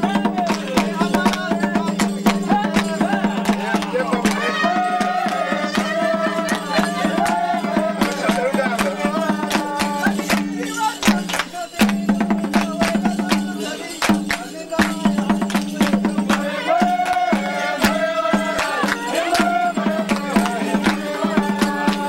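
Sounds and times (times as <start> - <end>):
group singing: 0.0 - 22.0
hand claps: 0.0 - 22.0.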